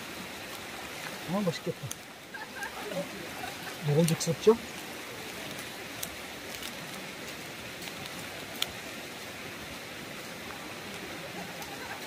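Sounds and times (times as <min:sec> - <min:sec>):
falling rain: 0:00.0 - 0:12.0
stream water hissing: 0:00.0 - 0:12.0.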